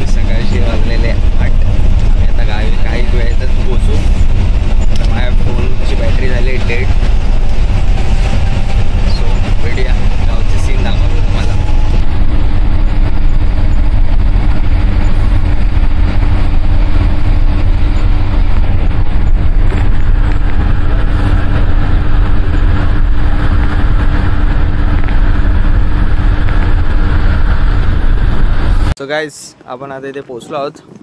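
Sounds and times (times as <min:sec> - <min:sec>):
constant low drone: 0:00.0 - 0:29.0
road vehicle rumble: 0:00.0 - 0:31.0.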